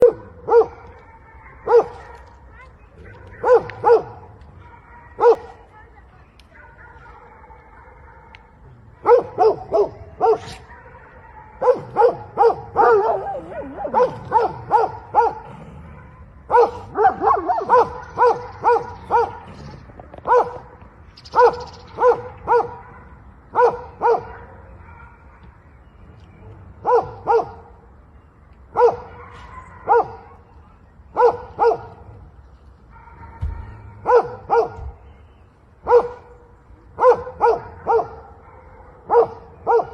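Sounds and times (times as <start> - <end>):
dog barking: 0.0 - 5.6, 6.6 - 19.5, 20.2 - 20.7, 21.3 - 25.6, 26.8 - 27.7, 28.8 - 30.5, 31.1 - 32.1, 32.9 - 35.0, 35.8 - 36.3, 37.0 - 39.9.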